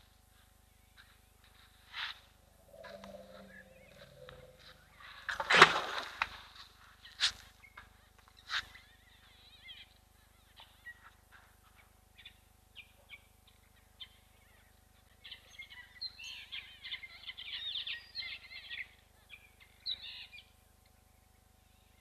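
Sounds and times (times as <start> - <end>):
small birds chirping: 0.4 - 5.3, 7.0 - 22.0.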